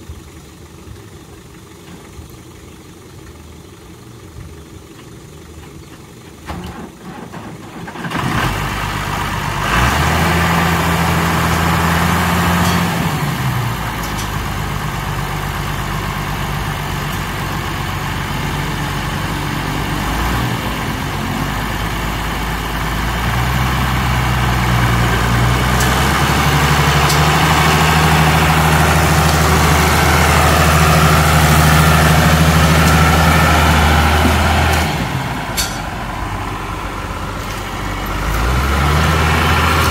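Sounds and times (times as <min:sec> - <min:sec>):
heavy diesel engine revving: 0:07.8 - 0:39.9.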